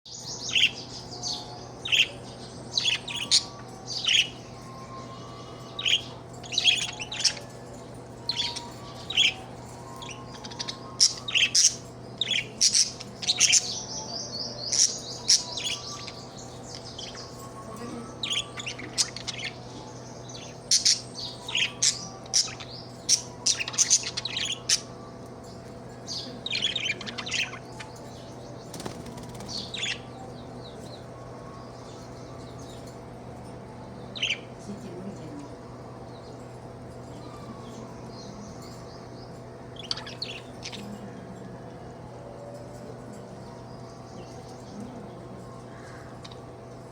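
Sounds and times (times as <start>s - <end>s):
steady low hum: 0.1s - 46.9s.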